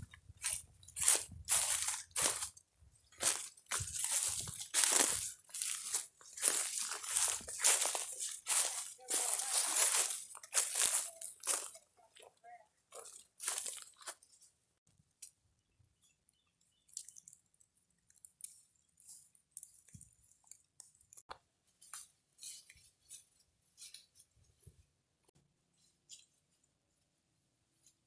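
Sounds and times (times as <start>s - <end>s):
faint rustling and crunching: 0.0s - 15.4s, 16.0s - 25.0s.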